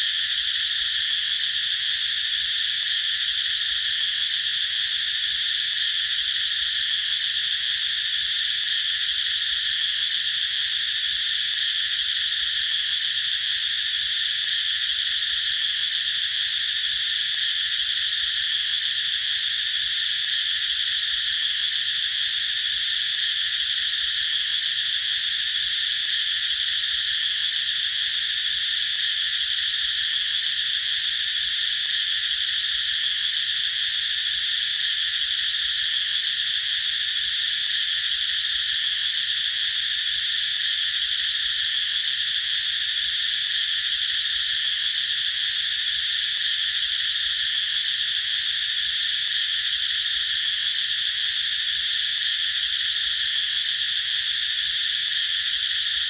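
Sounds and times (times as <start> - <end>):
cicadas singing: 0.0 - 56.0.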